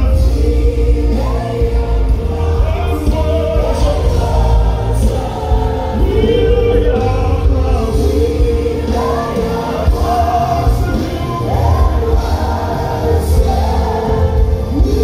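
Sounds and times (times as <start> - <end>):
gospel music over loudspeakers: 0.0 - 15.0.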